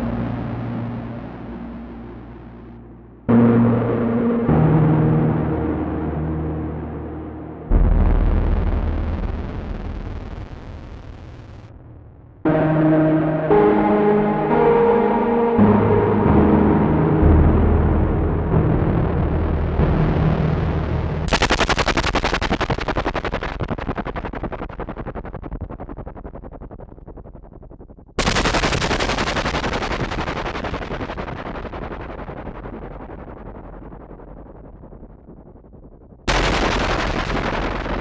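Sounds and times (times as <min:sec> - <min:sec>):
crackling synthesizer pulses: 0:00.0 - 0:04.6, 0:05.3 - 0:16.2, 0:16.9 - 0:38.0
low rumbling synthesizer tone: 0:00.0 - 0:38.0.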